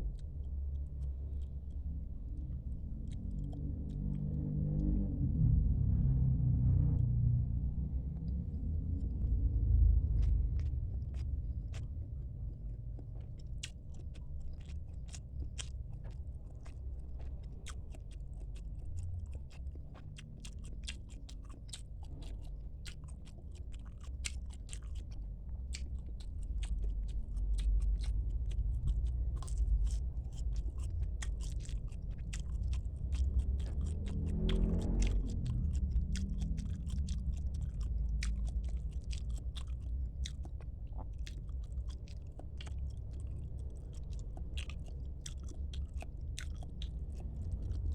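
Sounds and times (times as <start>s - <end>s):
person chewing and crunching food: 0.0s - 47.9s
steady low rumble: 0.0s - 47.9s
wet mouth clicks: 0.1s - 5.0s, 8.1s - 47.9s.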